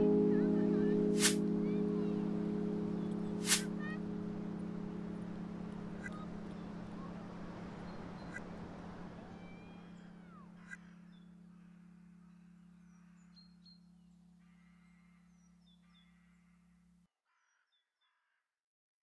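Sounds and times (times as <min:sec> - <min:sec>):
steady low hum: 0:00.0 - 0:17.0
birds chirping: 0:00.0 - 0:17.8.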